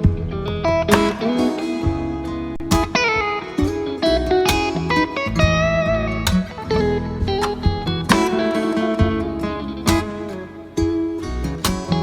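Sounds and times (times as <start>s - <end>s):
guitar plucked and strummed: 0.0s - 12.0s
steady bass: 0.0s - 12.0s.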